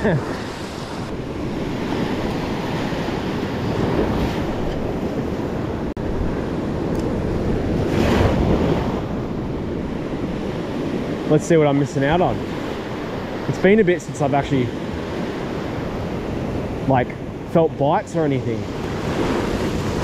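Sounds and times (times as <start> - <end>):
wind buffeting microphone: 0.0 - 17.5.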